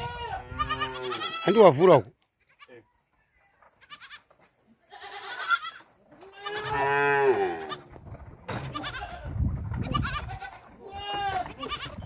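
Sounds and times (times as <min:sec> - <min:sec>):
goats bleating: 0:00.0 - 0:02.8, 0:03.8 - 0:04.3, 0:04.9 - 0:07.9, 0:08.6 - 0:12.0.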